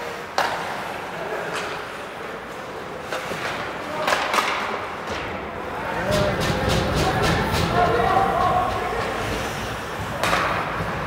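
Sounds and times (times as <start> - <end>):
hockey stick hitting puck: 0.2 - 2.0, 3.0 - 5.4, 6.0 - 11.0.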